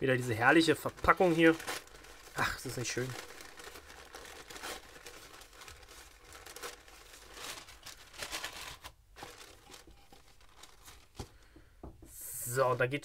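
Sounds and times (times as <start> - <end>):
packaging crinkling: 0.4 - 11.5.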